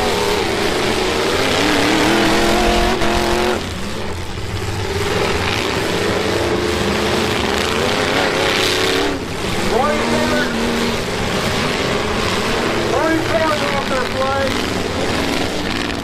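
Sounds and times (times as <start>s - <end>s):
truck engines revving hard: 0.0s - 16.0s.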